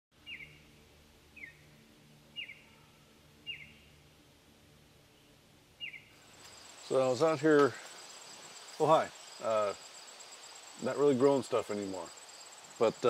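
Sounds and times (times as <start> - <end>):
bird chirping: 0.2 - 4.1, 5.2 - 13.0
low steady hum: 0.2 - 13.0.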